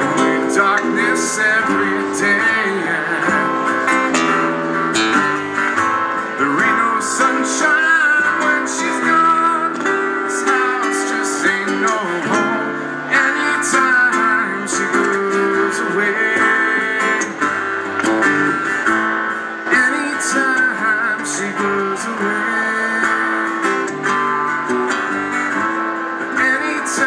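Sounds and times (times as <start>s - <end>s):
acoustic guitars strumming and picking: 0.0s - 27.0s.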